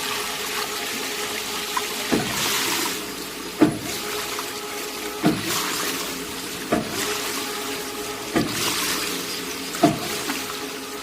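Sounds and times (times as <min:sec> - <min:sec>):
machine humming: 0:00.0 - 0:11.0
water rushing: 0:00.0 - 0:11.0.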